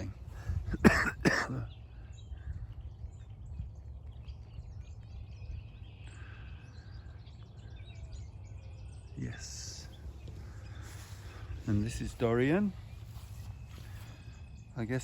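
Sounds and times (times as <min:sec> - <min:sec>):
songbirds chirping and whistling: 0:00.0 - 0:15.0
steady low rumble: 0:00.0 - 0:15.0.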